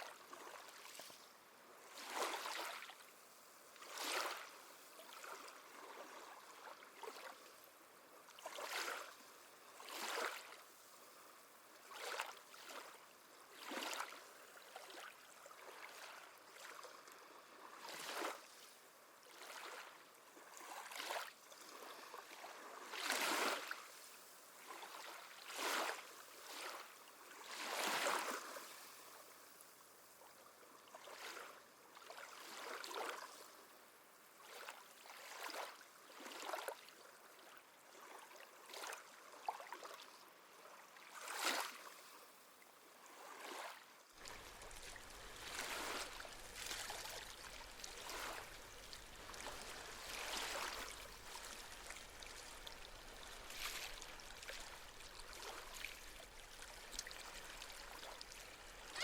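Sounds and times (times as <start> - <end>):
small waves lapping at shore: 0.0 - 59.0.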